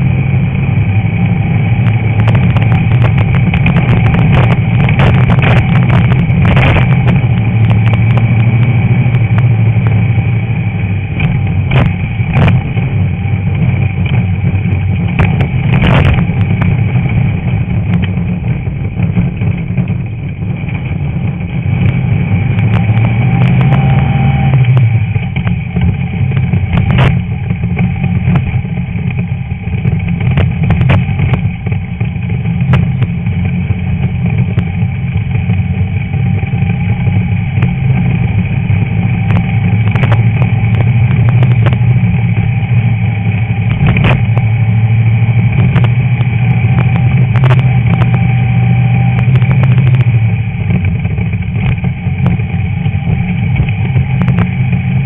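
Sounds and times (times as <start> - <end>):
car engine running hard: 0.0 - 55.0
car knocking and rattling: 0.0 - 55.0.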